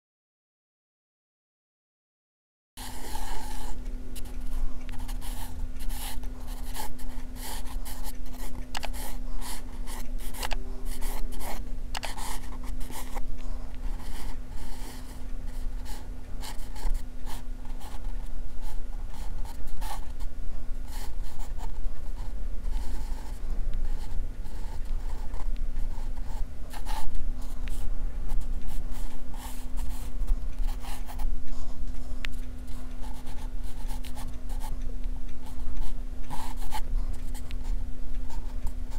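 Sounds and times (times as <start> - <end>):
pencil scratching on paper: 2.8 - 34.8, 35.4 - 38.9
low hum: 2.8 - 38.9.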